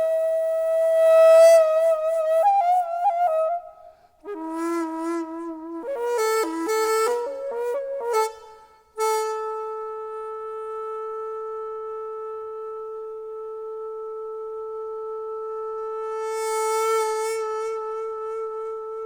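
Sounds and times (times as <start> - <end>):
bamboo flute long note: 0.0 - 19.0.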